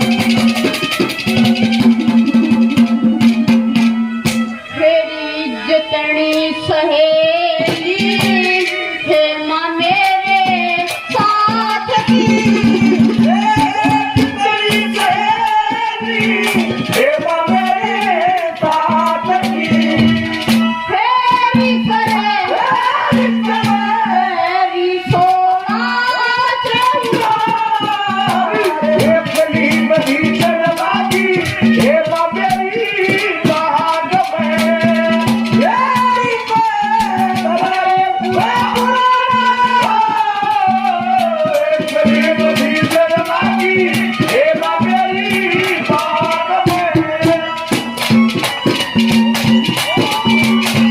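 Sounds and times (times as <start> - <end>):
drum and rattling percussion: 0.0 - 5.0, 5.7 - 50.9
person singing: 4.7 - 50.9.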